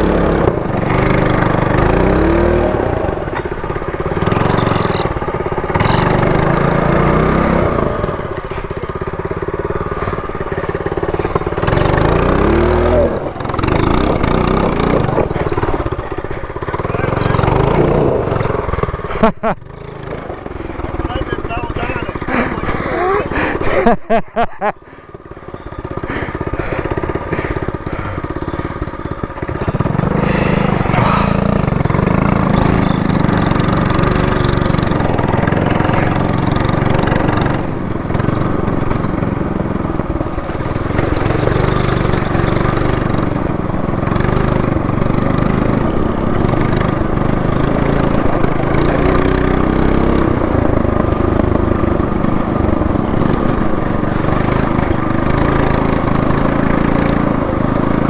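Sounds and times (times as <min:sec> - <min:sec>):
minibike engine running: 0:00.0 - 0:58.0.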